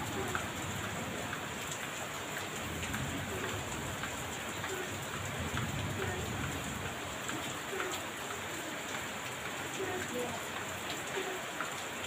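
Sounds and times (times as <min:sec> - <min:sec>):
heavy rain on a hard surface: 0:00.0 - 0:12.0.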